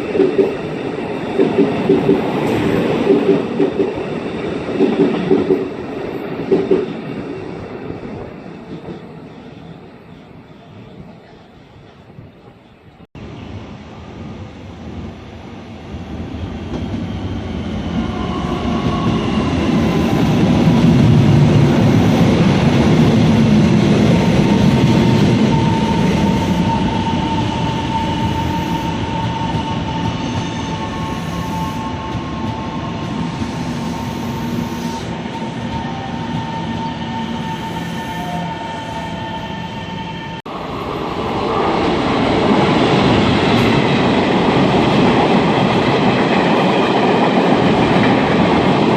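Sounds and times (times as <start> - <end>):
train rumbling past: 0.0 - 48.9.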